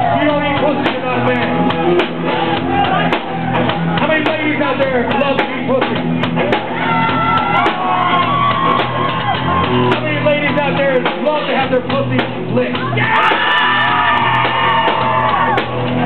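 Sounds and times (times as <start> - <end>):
loud music: 0.0 - 16.0
people shouting and singing: 0.0 - 16.0.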